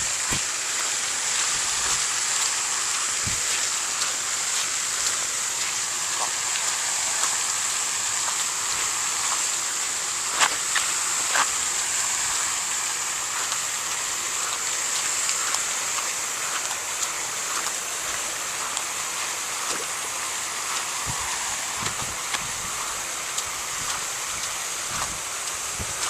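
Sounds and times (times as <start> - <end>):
light ticks and splashes: 0.0 - 26.0
running water hiss: 0.0 - 26.0.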